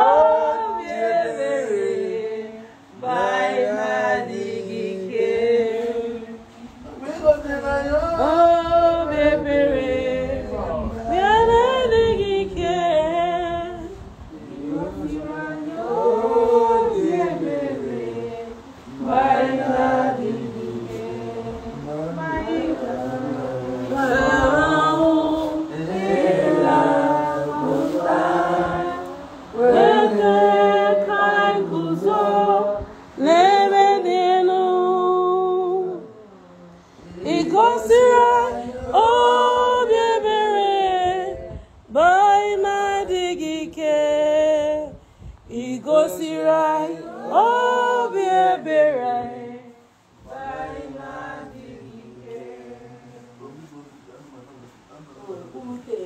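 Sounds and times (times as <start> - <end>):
group singing unaccompanied: 0.0 - 54.1.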